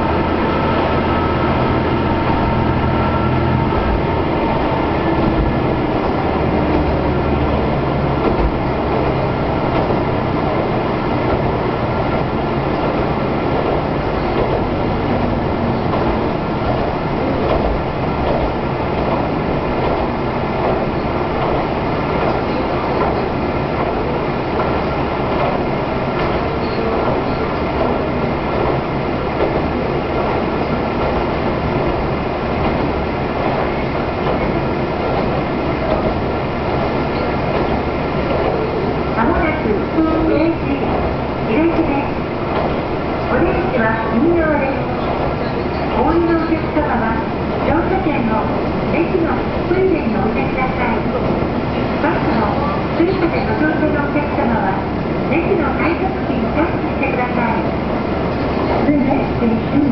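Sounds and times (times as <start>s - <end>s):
diesel railcar engine drone: 0.0s - 59.9s
wheels on rails: 0.0s - 59.9s.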